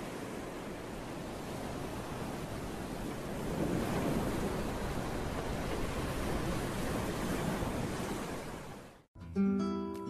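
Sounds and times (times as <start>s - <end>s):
ocean waves washing in: 0.0s - 9.1s.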